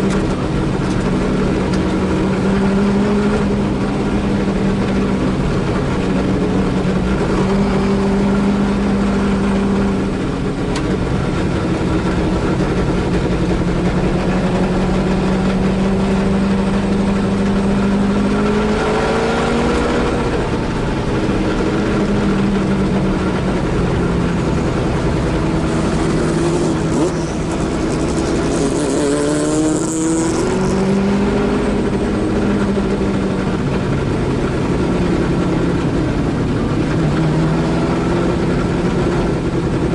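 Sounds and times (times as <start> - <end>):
race car engine at speed: 0.0 - 39.9.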